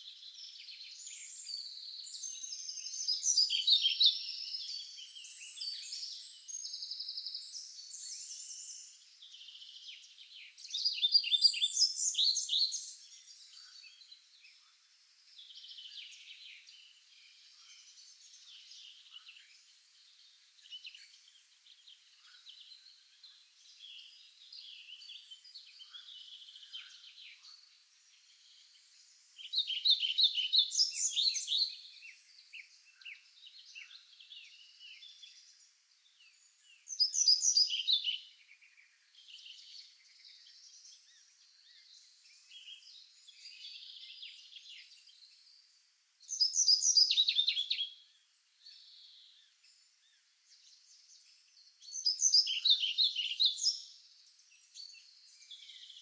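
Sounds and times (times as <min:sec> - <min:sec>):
songbird song of repeated notes: 0:00.0 - 0:56.0
bird chirps and calls: 0:00.1 - 0:14.8, 0:15.4 - 0:56.0.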